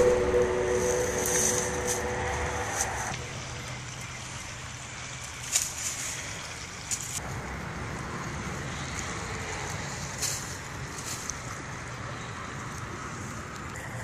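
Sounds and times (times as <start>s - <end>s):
dry leaves crackling: 0.0s - 14.0s.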